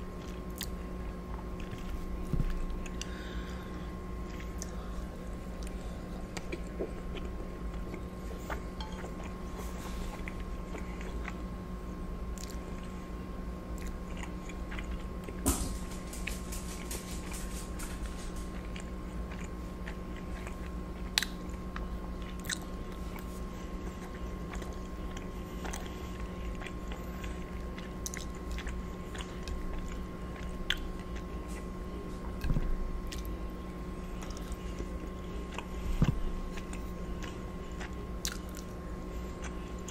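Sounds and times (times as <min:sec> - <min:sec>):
chewing with wet mouth sounds: 0:00.0 - 0:15.4, 0:18.0 - 0:39.9
steady low hum: 0:00.0 - 0:39.9.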